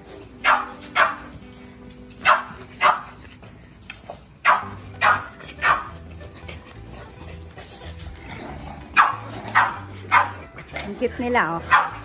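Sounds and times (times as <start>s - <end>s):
dogs barking: 0.0s - 3.4s, 4.4s - 12.0s.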